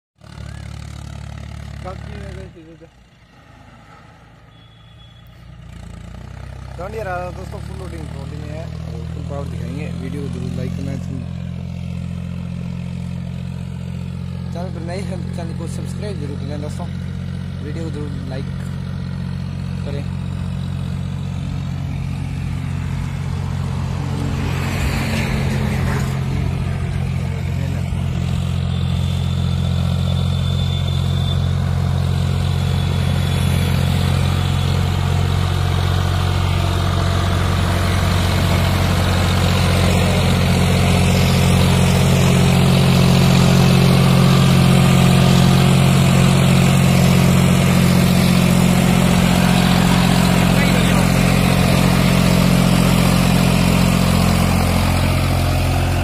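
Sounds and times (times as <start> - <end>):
tractor diesel engine running: 0.2 - 56.0.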